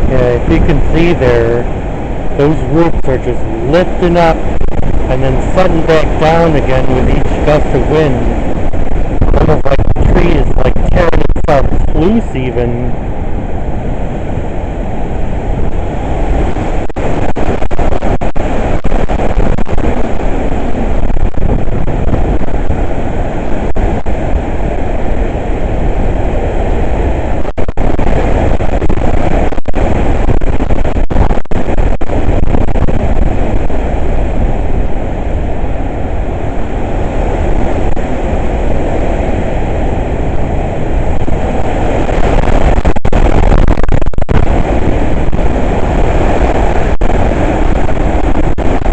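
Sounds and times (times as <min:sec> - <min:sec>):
strong wind on microphone: 0:00.0 - 0:48.9.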